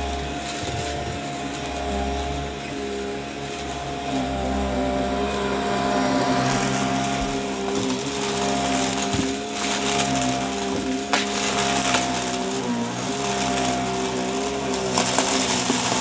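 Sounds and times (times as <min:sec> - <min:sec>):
vacuum cleaner motor hum: 0:00.0 - 0:16.0
vacuum sucking up crunchy debris: 0:00.0 - 0:16.0.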